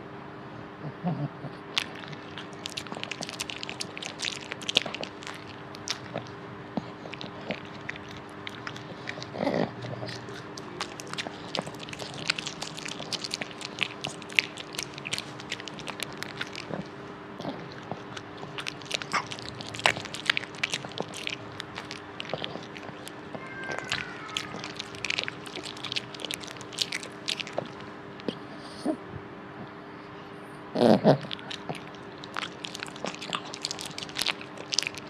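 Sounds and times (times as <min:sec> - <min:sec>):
dog chewing and crunching: 0:01.5 - 0:28.5, 0:31.1 - 0:35.0.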